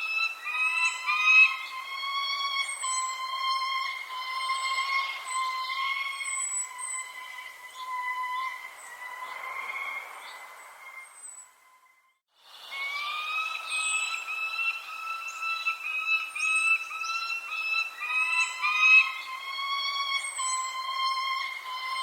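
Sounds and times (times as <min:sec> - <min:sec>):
small birds chirping: 0:00.0 - 0:22.0
steady whistle-like tone: 0:00.0 - 0:22.0.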